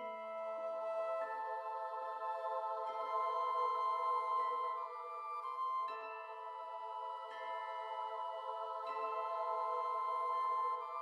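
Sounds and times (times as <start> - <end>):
slow ambient synth music: 0.0 - 11.0.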